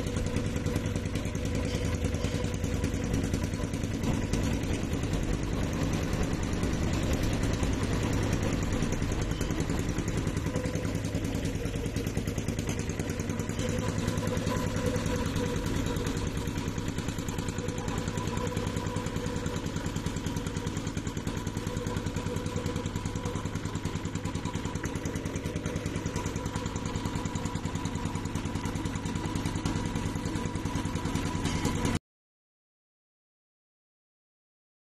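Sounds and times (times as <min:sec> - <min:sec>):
boat engine chugging: 0:00.0 - 0:32.0.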